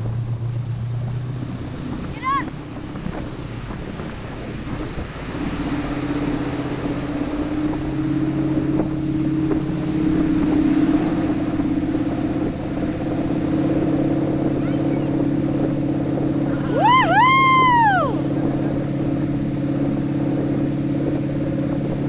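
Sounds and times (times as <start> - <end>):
boat engine running: 0.0 - 22.0
churning wake rushing: 0.0 - 22.0
wind on microphone: 0.0 - 22.0.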